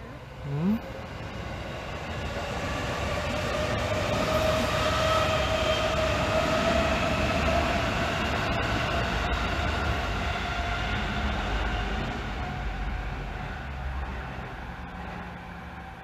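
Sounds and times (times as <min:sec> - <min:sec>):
electric train rumbling past: 0:00.0 - 0:16.0
train whine: 0:00.0 - 0:16.0.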